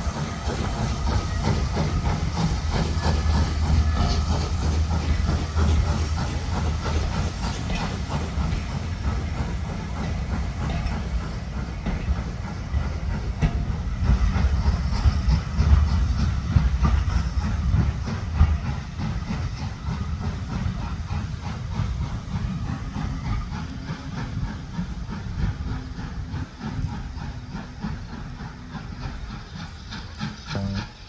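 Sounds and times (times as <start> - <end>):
train rumbling on track: 0.0 - 31.0
train wheel clatter: 0.0 - 31.0.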